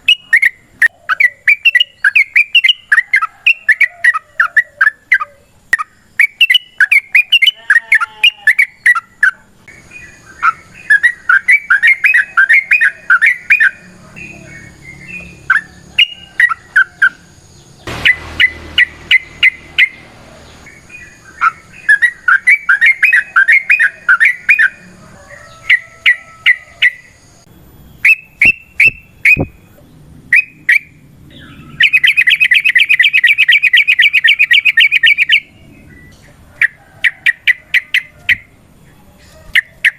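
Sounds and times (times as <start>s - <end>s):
bird chirping and trilling: 0.0s - 24.9s, 25.5s - 38.5s.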